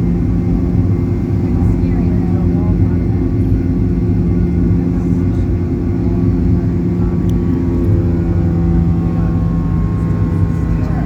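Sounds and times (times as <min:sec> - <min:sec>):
aircraft engines droning in cabin: 0:00.0 - 0:11.0.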